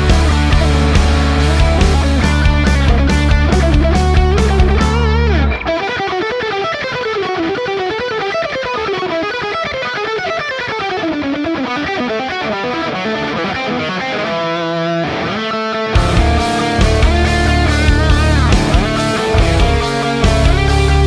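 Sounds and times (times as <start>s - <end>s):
fast electric guitar line: 0.0s - 21.0s
rock music: 0.0s - 21.0s.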